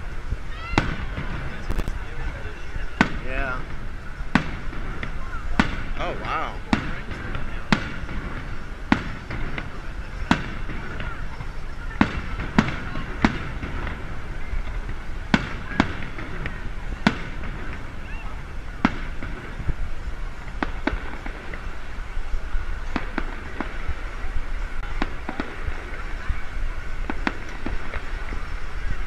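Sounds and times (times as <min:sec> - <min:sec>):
fireworks bangs and pops: 0:00.0 - 0:29.0.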